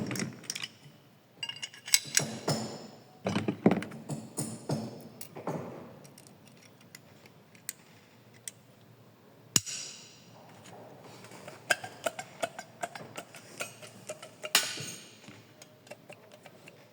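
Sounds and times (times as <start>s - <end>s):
hard parts clicking and knocking: 1.4s - 8.6s, 10.5s - 16.9s.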